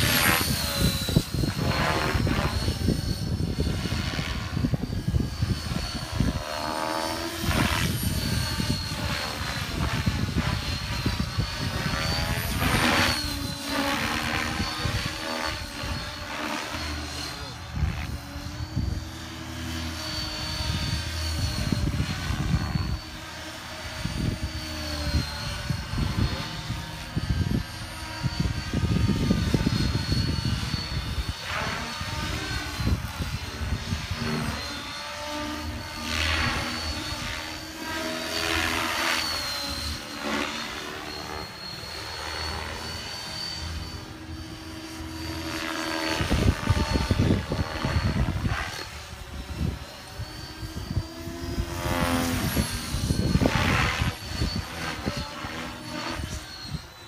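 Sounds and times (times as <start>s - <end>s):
model helicopter rotor whine: 0.0s - 57.0s.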